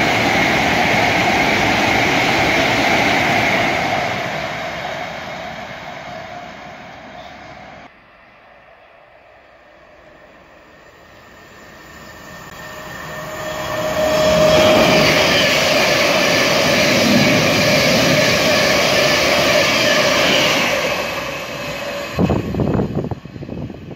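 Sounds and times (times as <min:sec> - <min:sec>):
passenger train rushing past: 0:00.0 - 0:23.9.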